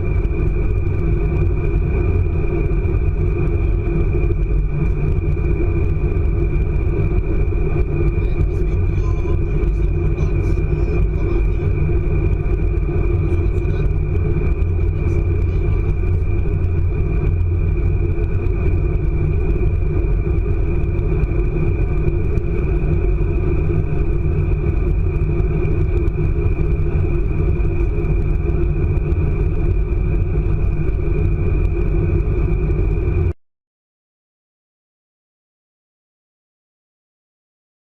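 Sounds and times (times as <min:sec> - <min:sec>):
high-pitched whine: 0:00.0 - 0:33.4
train rumble inside passenger car: 0:00.0 - 0:33.4.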